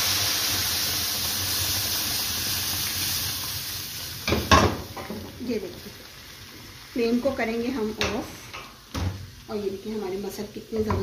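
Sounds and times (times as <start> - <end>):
hot oil hissing and spluttering: 0.0 - 10.4.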